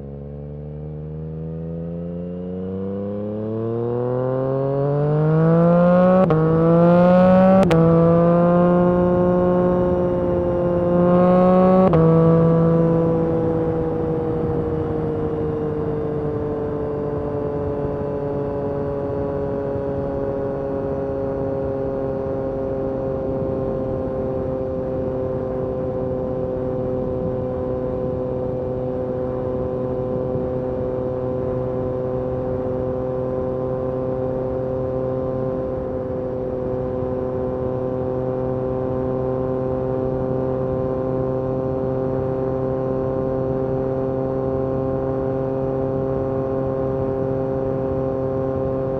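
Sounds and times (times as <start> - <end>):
motorcycle engine cruising: 0.0 - 48.9.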